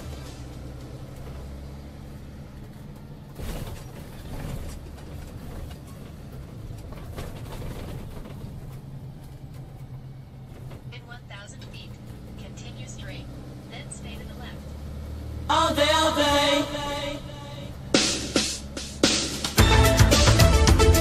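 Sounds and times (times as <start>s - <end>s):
road noise: 0.0s - 21.0s
vehicle engine drone: 0.0s - 21.0s.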